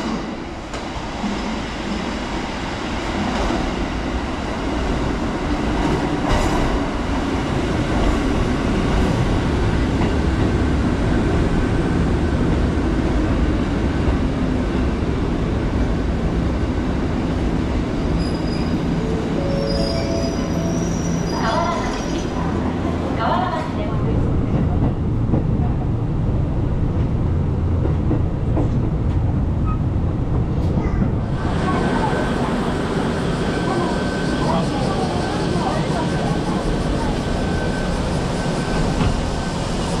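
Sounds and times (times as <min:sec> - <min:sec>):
electric train rumbling on rails: 0:00.0 - 0:40.0.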